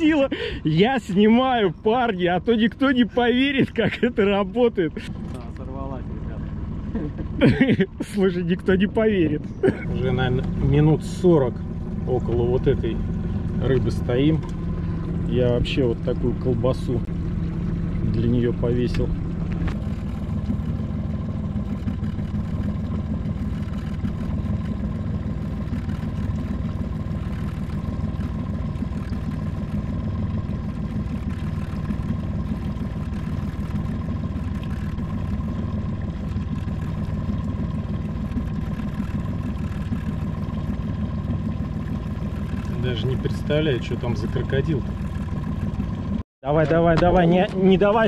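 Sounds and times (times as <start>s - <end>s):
boat motor running: 0.0s - 48.0s.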